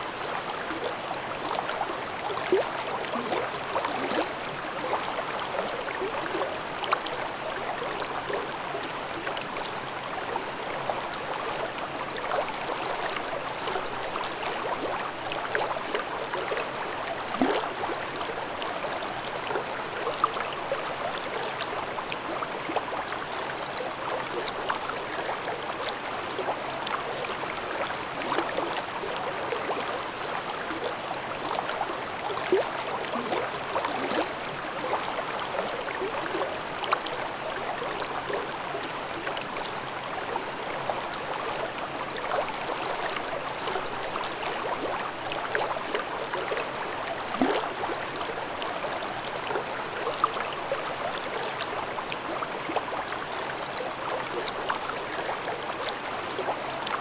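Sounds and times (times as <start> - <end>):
stream babbling over rocks: 0.1 - 57.0.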